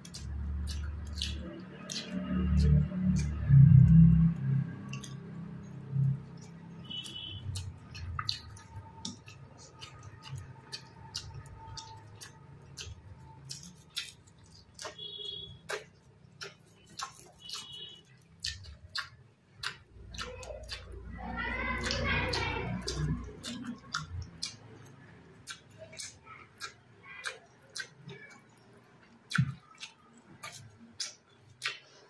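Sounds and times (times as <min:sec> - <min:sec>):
person chewing food: 0:00.0 - 0:32.0
wet mouth clicks and smacks: 0:00.0 - 0:32.0.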